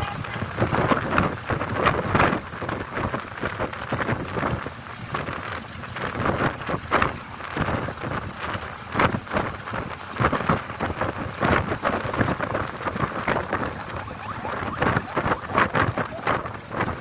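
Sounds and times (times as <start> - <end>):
vehicle and road noise: 0.0 - 17.0
wind buffeting microphone: 0.0 - 17.0.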